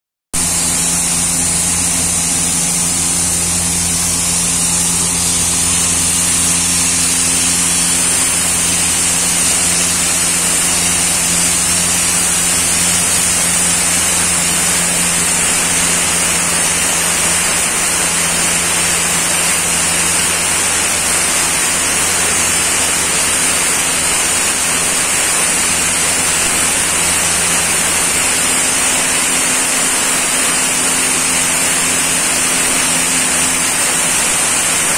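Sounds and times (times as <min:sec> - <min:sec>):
sandblaster hissing: 0:00.4 - 0:34.9.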